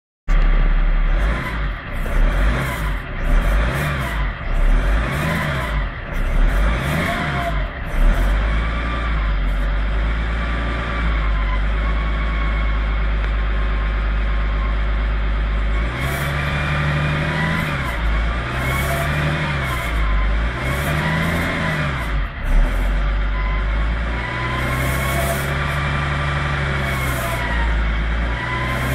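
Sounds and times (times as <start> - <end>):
diesel engine revving: 0.3 - 28.9.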